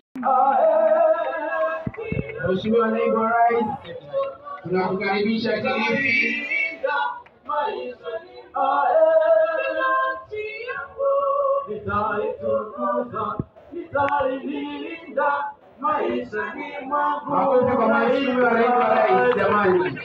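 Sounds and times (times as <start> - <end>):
group of voices singing: 0.2 - 20.0.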